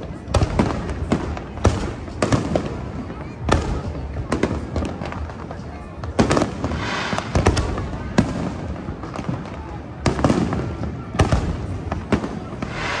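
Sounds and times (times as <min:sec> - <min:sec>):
fireworks bangs: 0:00.0 - 0:13.0
rumble of distant fireworks: 0:00.0 - 0:13.0.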